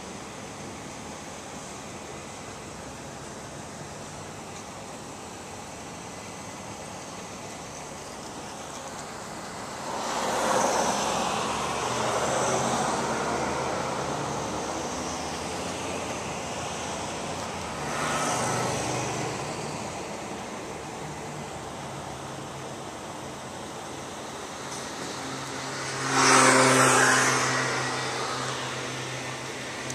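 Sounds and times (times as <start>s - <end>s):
vehicles passing on street: 0.0s - 29.9s.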